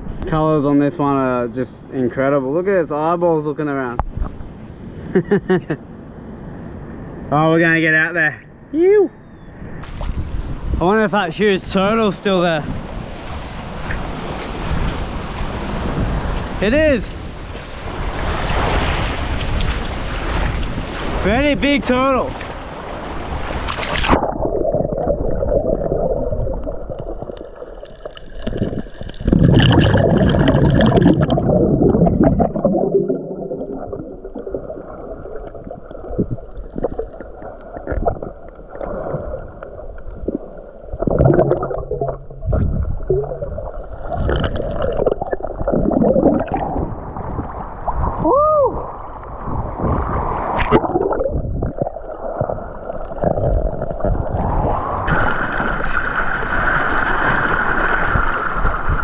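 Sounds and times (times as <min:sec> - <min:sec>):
muffled underwater rushing water: 0:09.8 - 0:59.0.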